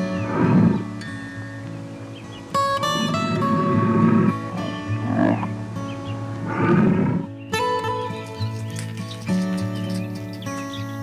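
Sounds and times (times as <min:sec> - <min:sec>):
instrumental background music: 0:00.1 - 0:11.0.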